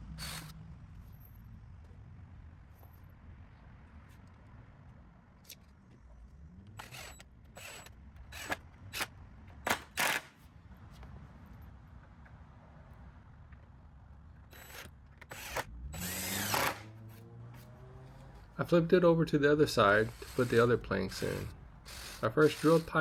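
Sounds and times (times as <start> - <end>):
low steady rumble: 0.0 - 9.7, 10.5 - 23.0.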